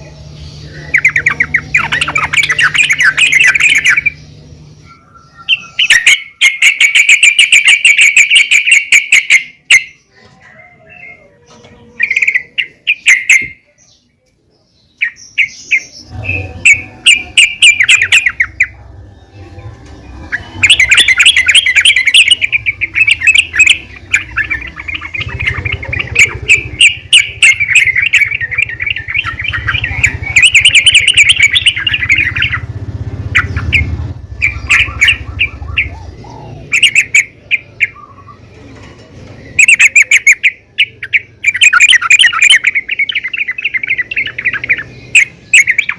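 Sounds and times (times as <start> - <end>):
bulbul chattering chirps: 0.0 - 10.2, 10.8 - 45.9.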